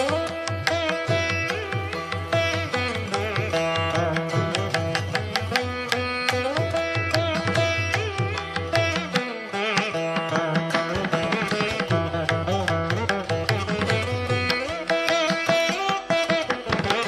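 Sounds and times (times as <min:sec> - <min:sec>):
string melody with bending notes: 0:00.0 - 0:17.0.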